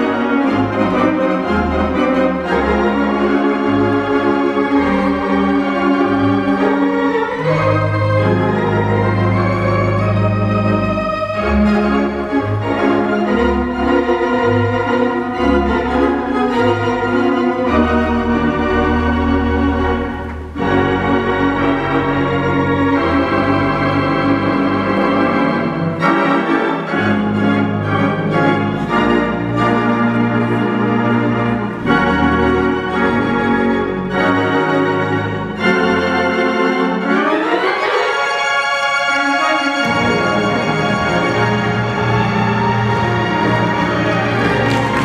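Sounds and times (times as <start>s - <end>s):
pipe organ playing chords: 0.0s - 45.0s.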